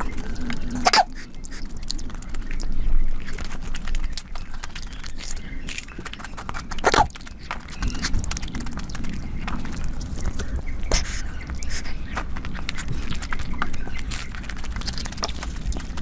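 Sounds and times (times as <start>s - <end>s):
chewing with wet mouth noises: 0.0s - 16.0s
fingers squelching through curry: 0.0s - 16.0s.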